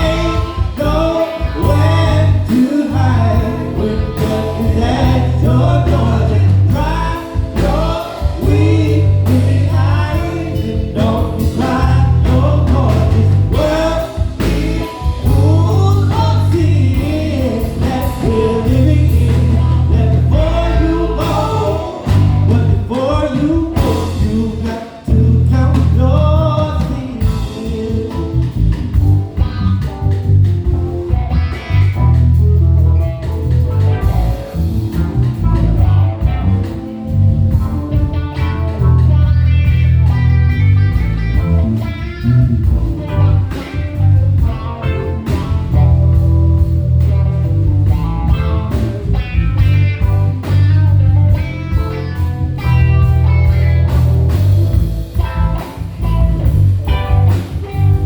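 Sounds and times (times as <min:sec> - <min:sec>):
bass heavy repeated notes: 0:00.0 - 0:58.0
drum kit keeping time: 0:00.0 - 0:58.0.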